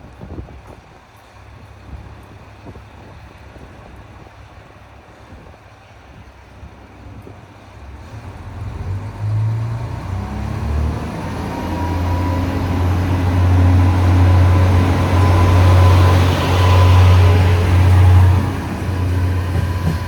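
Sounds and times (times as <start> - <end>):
diesel railcar engine: 0.0 - 20.0.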